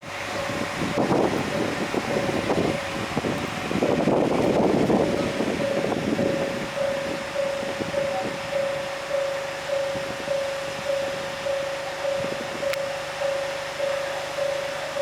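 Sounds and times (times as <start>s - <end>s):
level-crossing warning alarm: 0.0s - 15.0s
rushing noise: 0.0s - 15.0s.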